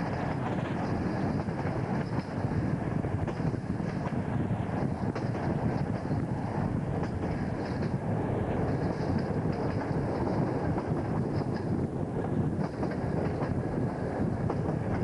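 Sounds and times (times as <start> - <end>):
train rumbling at speed: 0.0 - 15.0
wind buffeting microphone: 0.0 - 15.0.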